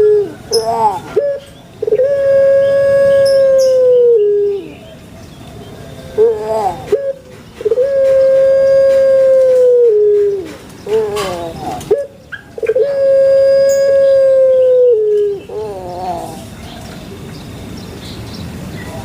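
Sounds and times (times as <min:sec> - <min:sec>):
dove calling: 0:00.0 - 0:17.2.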